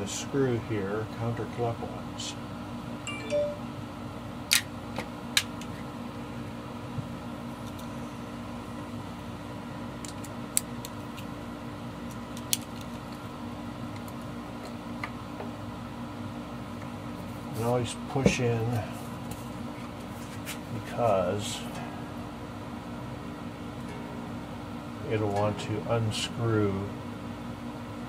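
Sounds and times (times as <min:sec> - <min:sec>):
background hum: 0:01.0 - 0:28.0.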